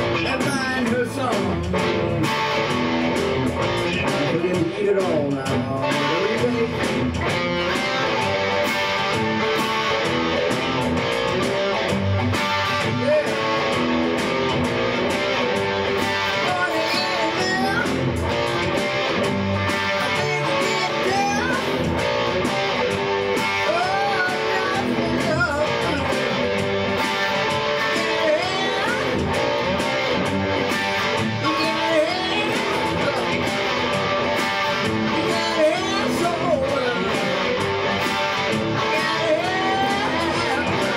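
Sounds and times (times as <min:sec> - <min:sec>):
rock music with electric guitar: 0:00.0 - 0:40.9.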